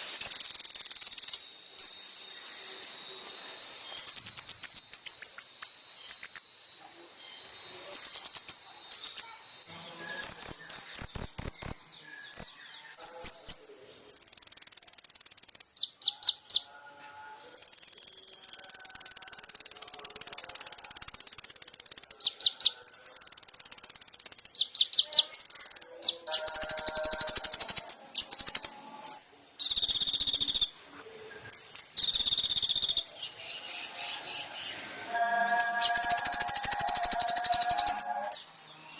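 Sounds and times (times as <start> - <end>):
sunbird high-pitched trills: 0.0 - 38.9.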